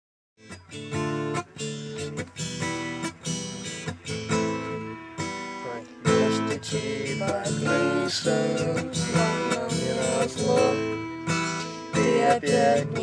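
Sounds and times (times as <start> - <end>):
acoustic guitar strumming: 0.4 - 13.0.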